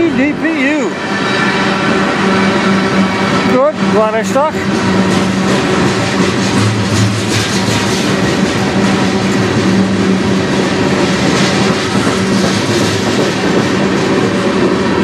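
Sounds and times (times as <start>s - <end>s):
freight train cars rolling past: 0.0s - 15.0s
steel wheels rattling on rails: 0.0s - 15.0s.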